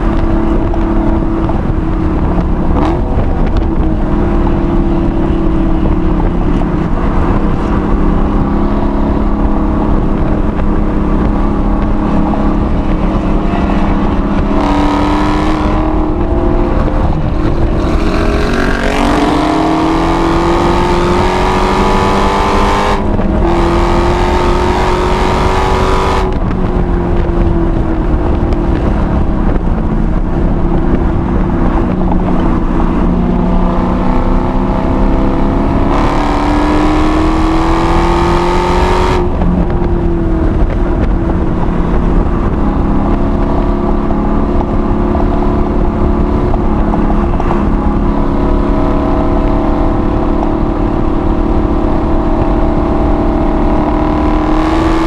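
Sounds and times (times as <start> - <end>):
car engine accelerating: 0.0 - 55.0
road and wind rumble: 0.0 - 55.0.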